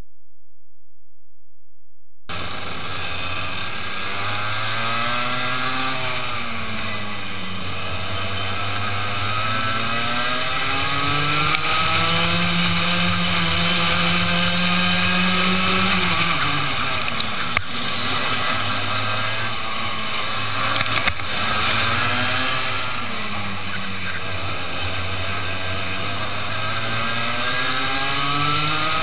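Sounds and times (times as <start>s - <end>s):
kart engine revving: 2.3s - 29.0s.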